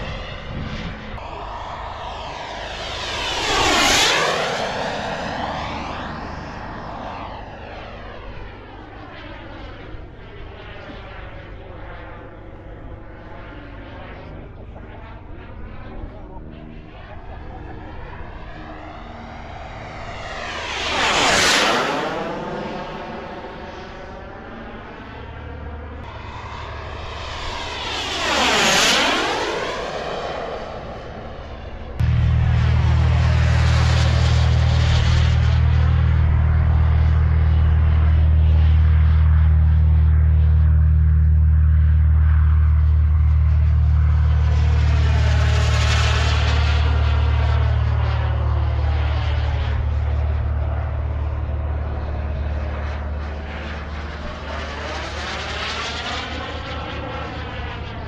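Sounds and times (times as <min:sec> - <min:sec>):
model jet turbine flying past: 0:00.0 - 0:58.0.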